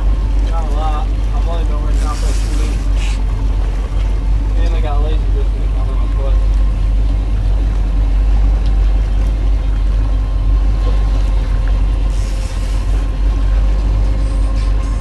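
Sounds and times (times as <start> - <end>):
boat engine droning: 0.0 - 15.0
faint engine whine: 0.0 - 15.0.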